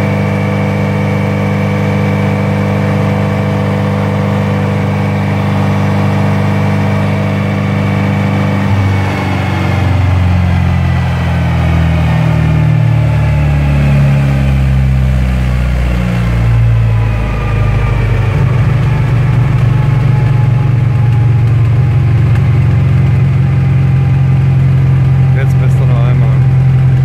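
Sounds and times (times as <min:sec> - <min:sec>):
car engine revving down to idle: 0:00.0 - 0:27.0.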